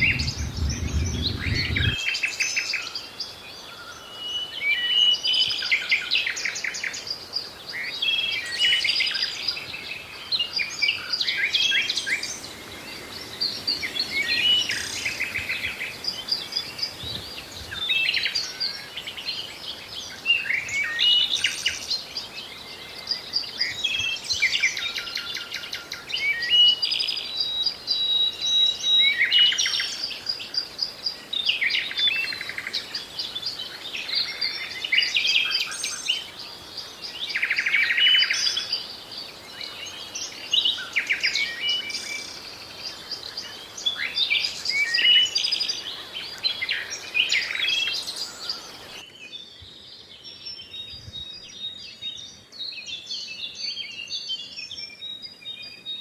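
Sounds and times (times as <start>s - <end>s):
background hiss: 0.0s - 50.7s
songbirds singing: 0.0s - 56.0s.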